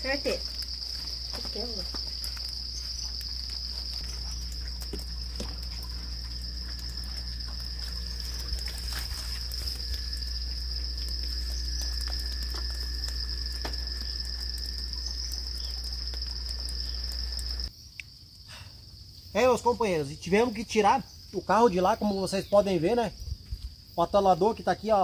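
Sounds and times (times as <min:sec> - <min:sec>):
high-pitched insect trilling: 0:00.0 - 0:25.0
lower insect trill: 0:00.0 - 0:25.0.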